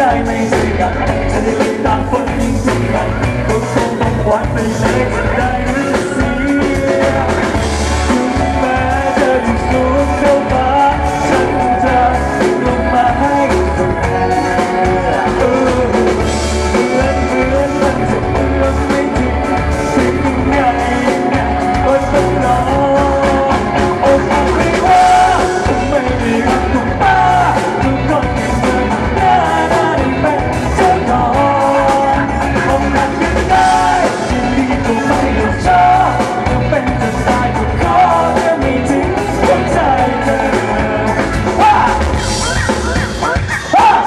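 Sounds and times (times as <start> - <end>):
man singing into a microphone: 0.0 - 42.5, 43.7 - 44.0
drums beating: 0.0 - 44.0
live pop-rock band: 0.0 - 44.0.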